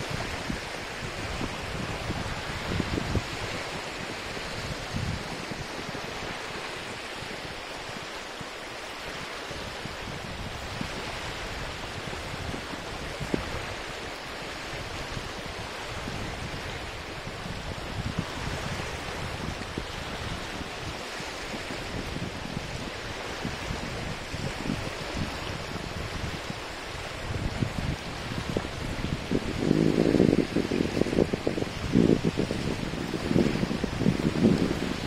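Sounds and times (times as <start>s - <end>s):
waves washing on sandy beach: 0.0s - 35.0s.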